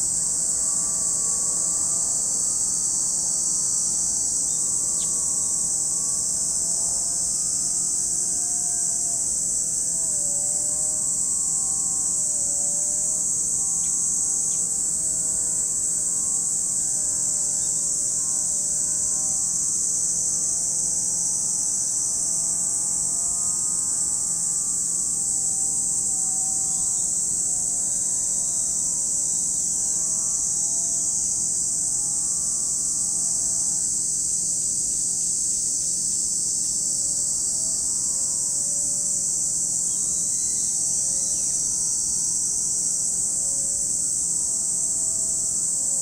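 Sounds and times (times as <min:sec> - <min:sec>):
cicadas buzzing: 0:00.0 - 0:46.0.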